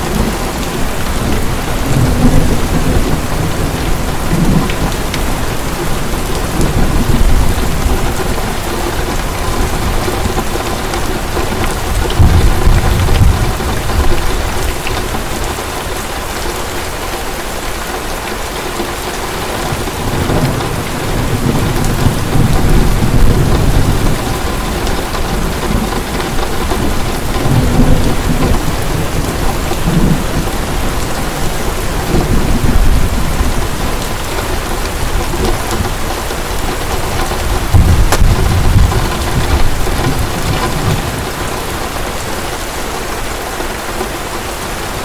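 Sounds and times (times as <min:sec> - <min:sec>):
low thunder rumbling: 0:00.0 - 0:15.8, 0:19.4 - 0:42.6
heavy rain falling: 0:00.0 - 0:45.0.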